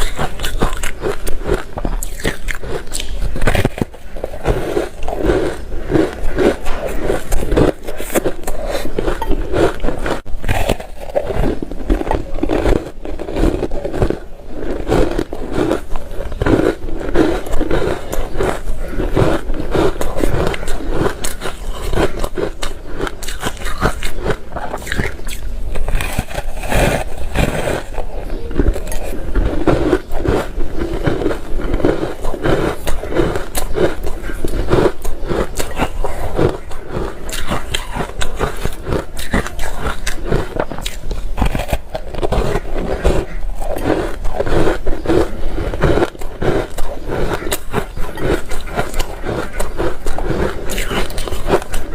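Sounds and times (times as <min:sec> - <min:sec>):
person crunching ice: 0:00.0 - 0:51.9.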